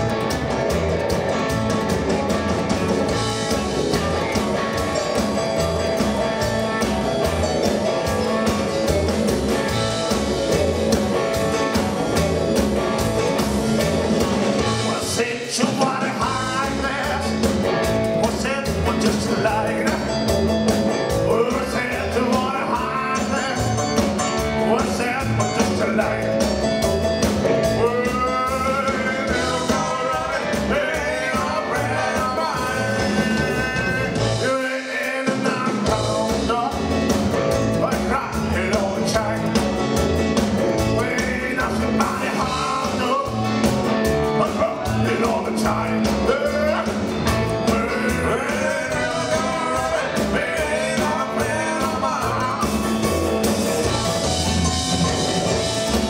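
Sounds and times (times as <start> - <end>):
rockabilly band playing: 0.0 - 56.0.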